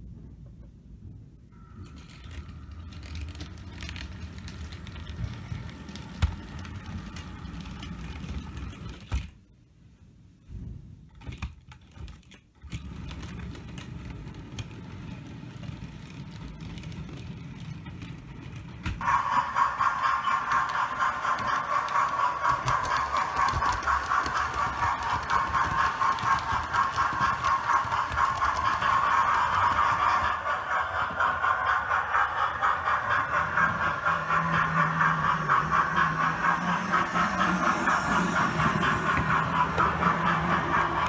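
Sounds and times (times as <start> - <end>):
model train wheels rumbling: 1.6 - 9.4, 11.1 - 41.0.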